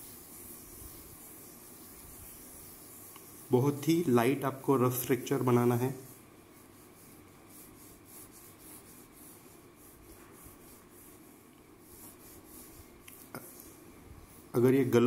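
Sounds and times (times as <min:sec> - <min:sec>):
pencil scratching on paper: 0:00.0 - 0:03.9, 0:05.4 - 0:14.9.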